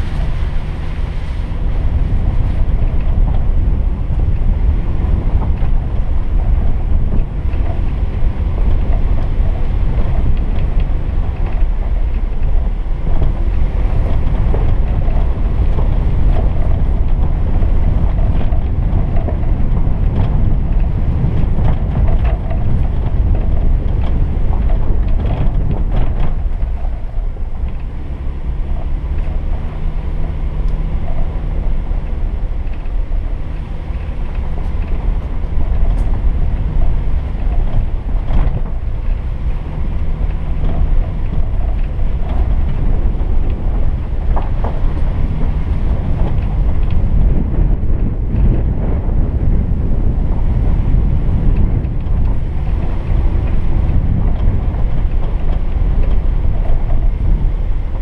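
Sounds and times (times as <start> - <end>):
car engine: 0.0 - 58.0
knocks and rattles: 0.0 - 58.0
wind buffeting microphone: 0.0 - 58.0.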